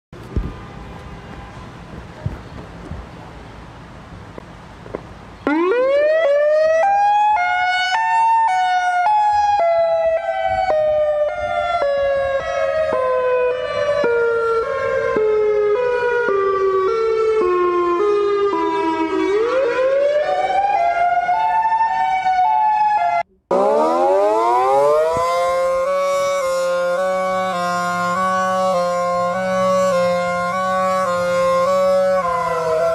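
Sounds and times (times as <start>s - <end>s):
tornado warning siren wailing: 5.4s - 32.9s.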